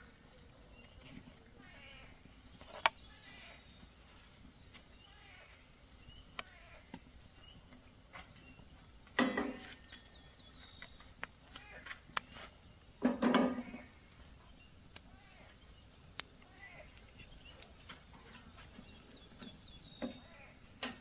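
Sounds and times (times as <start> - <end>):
pancakes frying in a pan: 0.0 - 21.0
sharp clicks and crackles: 0.8 - 21.0.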